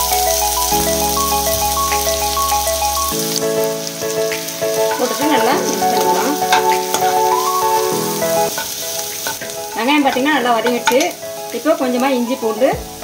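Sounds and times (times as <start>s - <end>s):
mallet-like background music: 0.0s - 13.0s
onions sizzling in oil: 0.0s - 13.0s.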